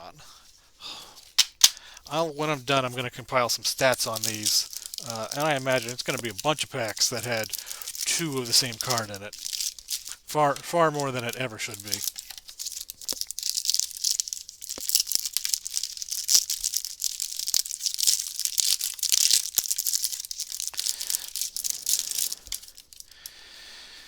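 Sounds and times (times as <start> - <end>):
wrapper tearing and crinkling: 0.3 - 23.3.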